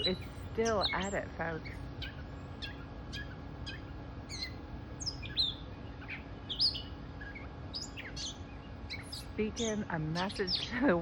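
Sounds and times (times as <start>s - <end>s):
bird chirps and whistles: 0.0s - 10.8s.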